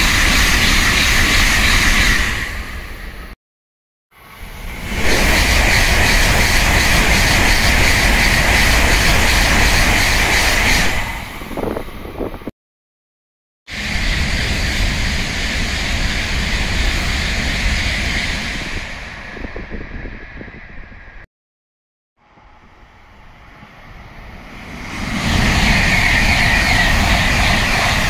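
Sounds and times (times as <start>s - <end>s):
train passing at speed: 0.0s - 3.4s, 4.2s - 12.5s, 13.7s - 21.3s, 22.2s - 28.0s.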